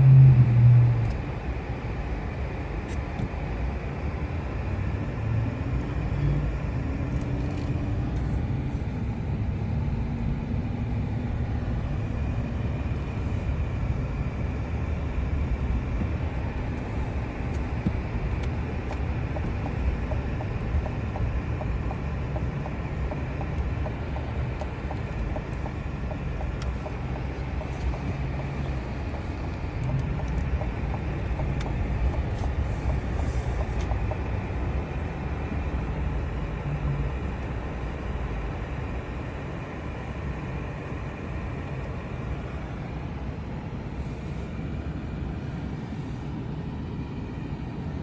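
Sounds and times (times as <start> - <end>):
truck engine and road rumble: 0.0 - 48.0.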